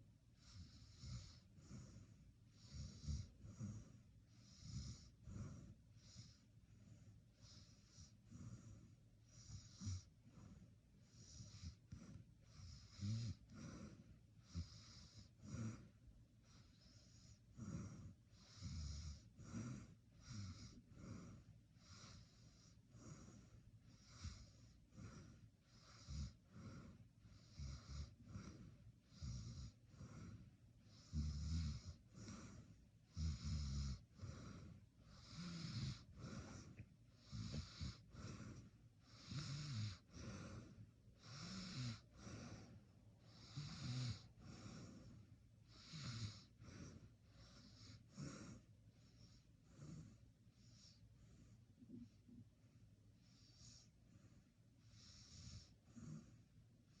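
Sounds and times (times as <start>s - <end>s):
person snoring: 0.4s - 6.4s, 11.1s - 51.0s.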